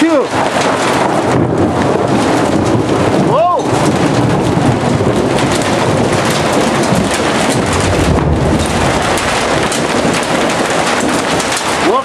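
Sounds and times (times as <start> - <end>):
hail clattering: 0.0 - 12.0
low rumble: 1.3 - 11.8.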